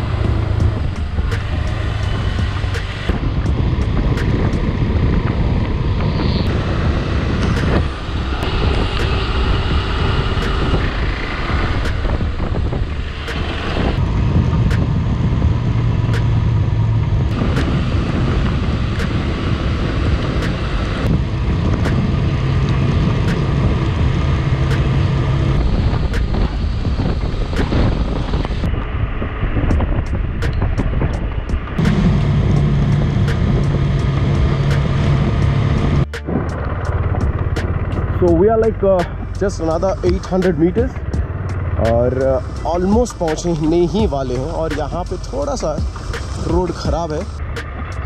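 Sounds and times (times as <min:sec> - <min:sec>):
motorcycle engine: 0:00.0 - 0:45.2
wind on microphone: 0:00.0 - 0:48.0.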